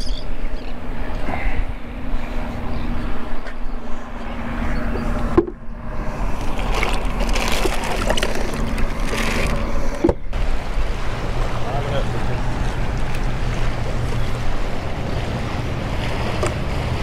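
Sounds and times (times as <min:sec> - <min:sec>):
steady low hum: 0:00.0 - 0:17.0
wind rumbling on microphone: 0:00.0 - 0:17.0.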